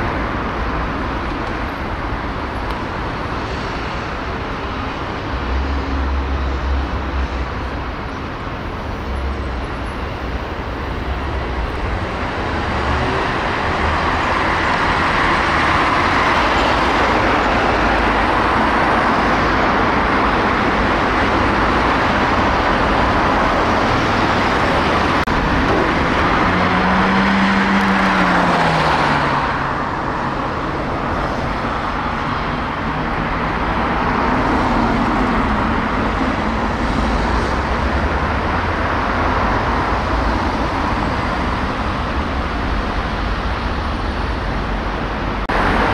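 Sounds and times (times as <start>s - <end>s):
road traffic: 0.0s - 45.9s.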